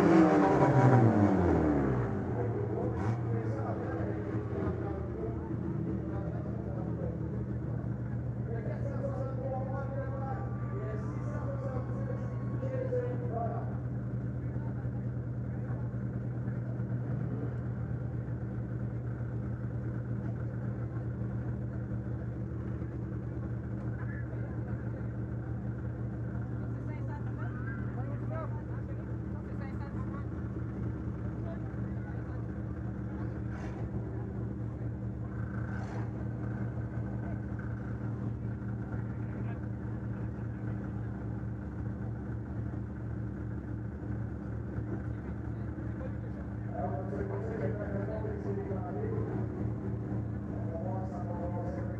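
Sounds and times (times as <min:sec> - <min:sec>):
car engine running steadily: 0:00.0 - 0:51.9.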